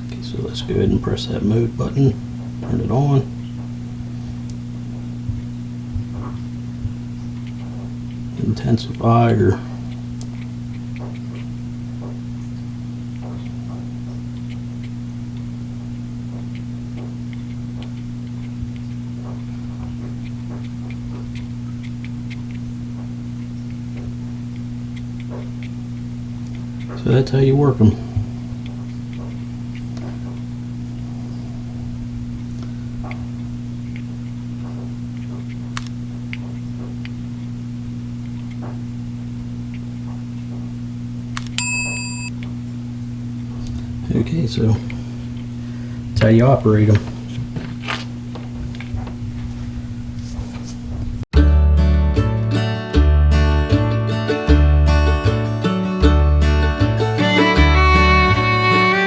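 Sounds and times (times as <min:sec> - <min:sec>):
low electrical hum: 0:00.0 - 0:51.3.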